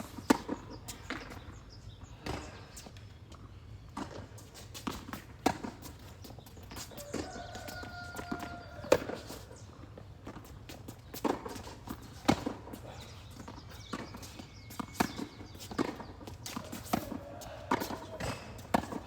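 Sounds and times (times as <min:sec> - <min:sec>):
tennis balls struck by rackets: 0:00.0 - 0:01.6, 0:02.2 - 0:03.0, 0:03.9 - 0:19.0
tennis balls bouncing on court: 0:00.0 - 0:19.0.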